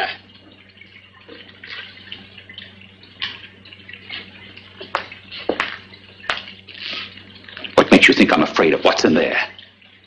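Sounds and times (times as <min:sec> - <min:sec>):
liquid bubbling and dripping: 0:00.0 - 0:10.0.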